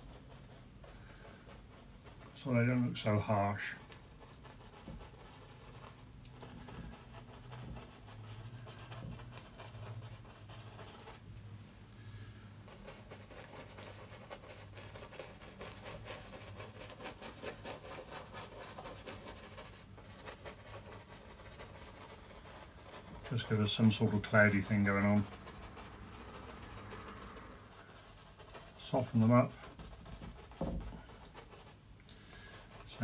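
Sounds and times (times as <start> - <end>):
brush scratching on canvas: 0.0 - 11.3, 12.1 - 33.0.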